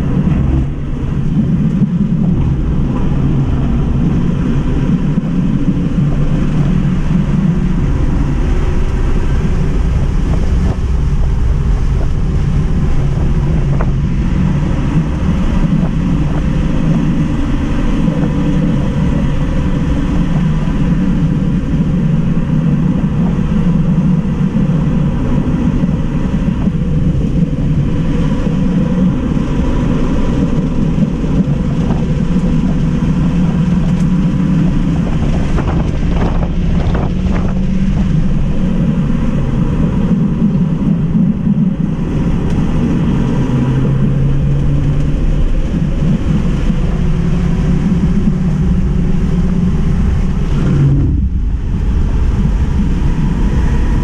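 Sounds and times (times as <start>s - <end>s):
tyre and road rumble: 0.0s - 54.0s
wind over a car: 0.0s - 54.0s.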